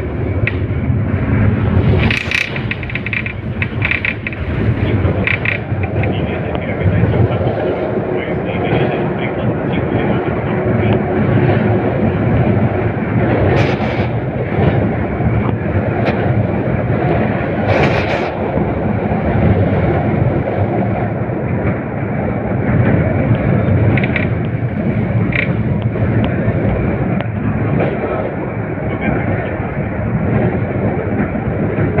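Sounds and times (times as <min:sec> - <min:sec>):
tram wheels rumbling: 0:00.0 - 0:32.0.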